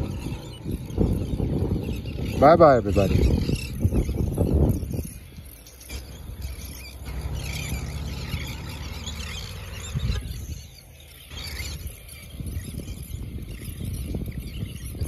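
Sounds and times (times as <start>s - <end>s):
shorebirds twittering: 0.0s - 15.0s
wind buffeting microphone: 0.0s - 15.0s.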